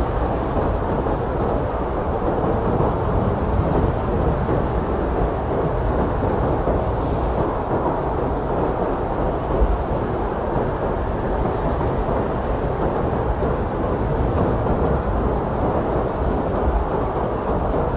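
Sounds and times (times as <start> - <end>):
blizzard wind blowing: 0.0 - 17.9.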